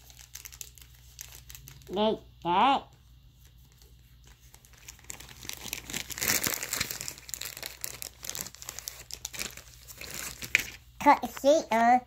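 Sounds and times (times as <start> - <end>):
plastic wrapper crackling: 0.0 - 2.0, 3.7 - 11.5.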